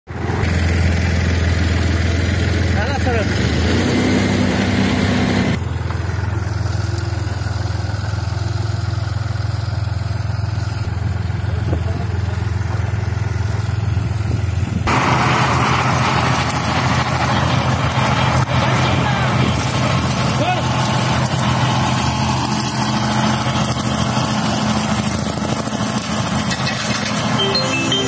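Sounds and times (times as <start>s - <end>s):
tractor engine running: 0.1s - 28.0s.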